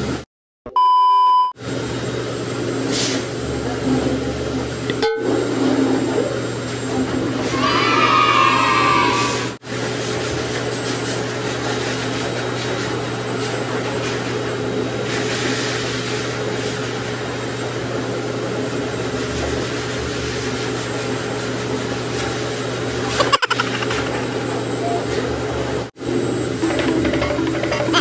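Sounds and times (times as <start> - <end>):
blow dryer running: 1.6 - 28.0.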